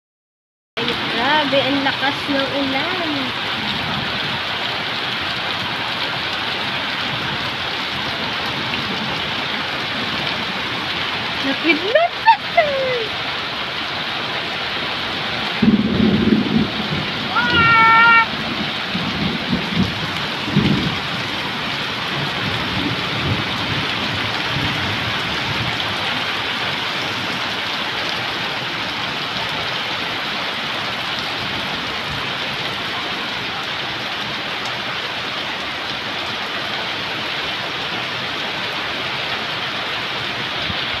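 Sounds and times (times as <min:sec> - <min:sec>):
heavy rain on pavement: 0:00.8 - 0:41.0.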